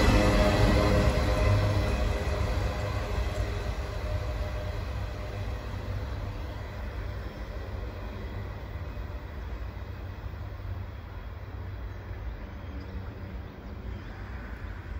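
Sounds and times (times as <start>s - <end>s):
freight train wheels rumbling on track: 0.0s - 14.9s.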